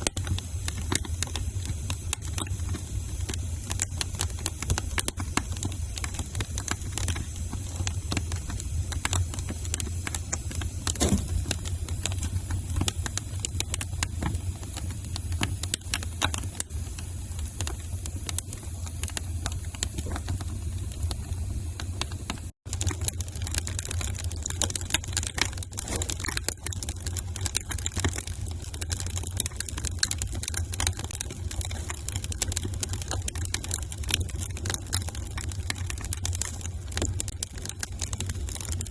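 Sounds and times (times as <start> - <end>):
low rumble of flames: 0.0 - 38.9
sharp pops and snaps: 0.0 - 38.9
wood fire crackling: 0.0 - 38.9.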